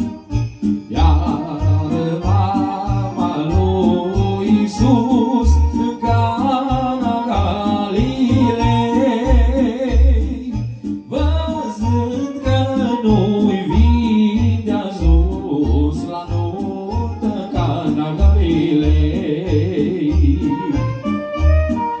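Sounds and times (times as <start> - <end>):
electronic keyboard accompaniment: 0.0 - 22.0
man singing with vibrato: 0.0 - 22.0.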